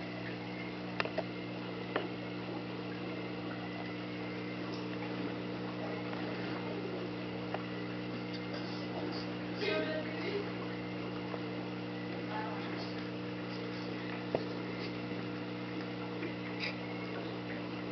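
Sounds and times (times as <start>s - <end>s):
aquarium air pump humming: 0.0s - 17.9s.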